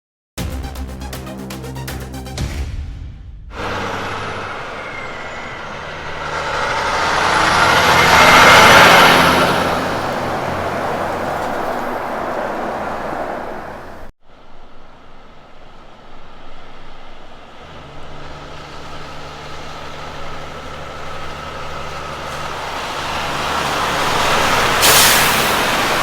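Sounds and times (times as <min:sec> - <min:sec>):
truck passing by: 0:03.5 - 0:26.0.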